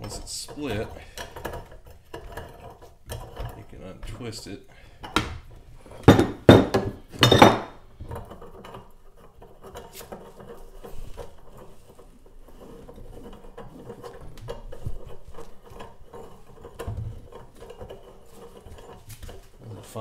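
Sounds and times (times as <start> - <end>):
metal scraping and clicking: 0.0 - 5.2, 6.8 - 20.0.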